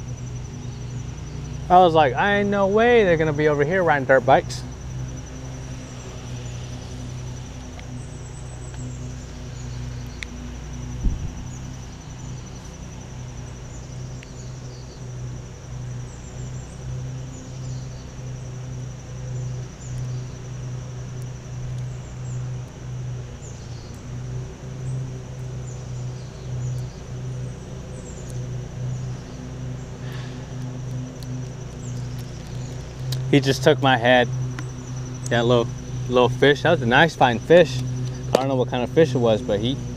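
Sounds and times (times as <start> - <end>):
birds chirping: 0.0 - 39.9
insect trill: 0.0 - 39.9
lawn mower engine running: 0.0 - 39.9.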